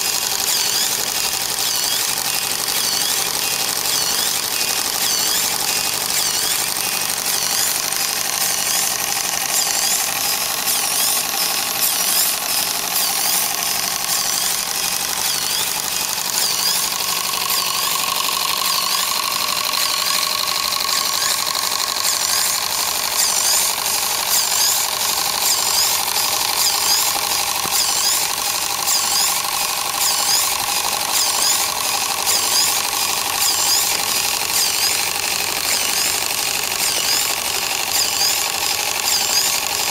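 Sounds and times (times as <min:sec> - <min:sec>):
high squeaks: 0:00.0 - 0:39.9
steam pump clattering: 0:00.0 - 0:39.9
whistling tone: 0:00.2 - 0:39.9.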